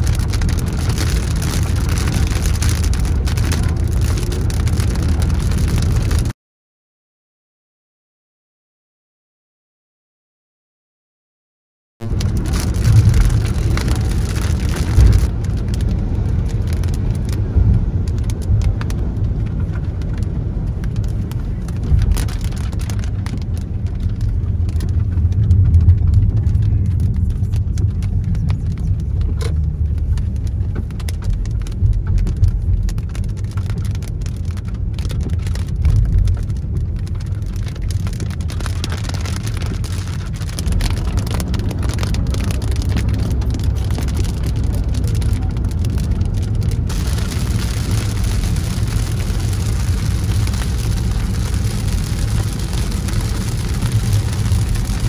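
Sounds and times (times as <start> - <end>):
car and tyres rumbling on wet road: 0.0 - 6.4, 12.0 - 55.0
raindrops hitting windscreen: 0.0 - 6.4, 12.0 - 55.0.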